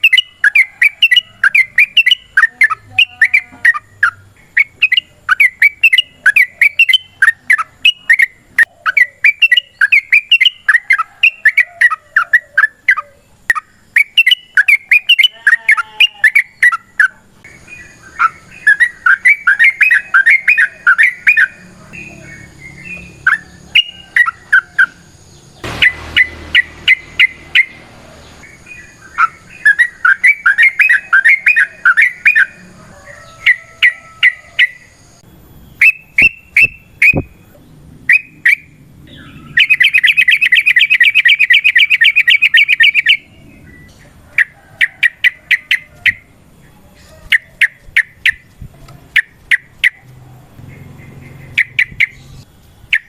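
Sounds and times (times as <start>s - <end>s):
bird chirping and trilling: 0.0s - 48.5s, 49.1s - 53.0s.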